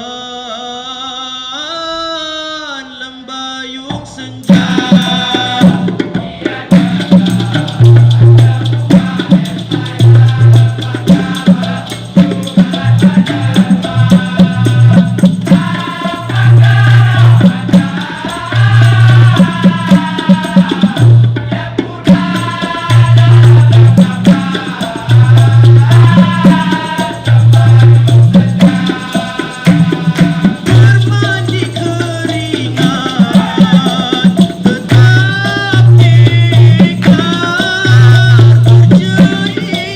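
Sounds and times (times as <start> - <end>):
deep hand drums: 3.9 - 39.9
maracas shaking: 4.6 - 39.9.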